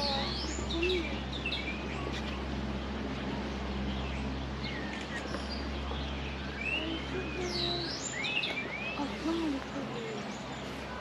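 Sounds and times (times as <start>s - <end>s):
low hum: 0.0s - 11.0s
small birds chirping: 0.0s - 11.0s.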